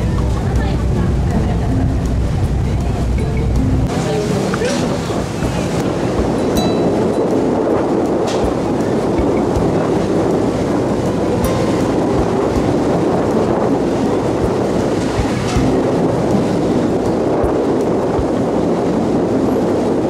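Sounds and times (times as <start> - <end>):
low engine drone: 0.0 - 20.0
rushing wake water: 0.0 - 20.0.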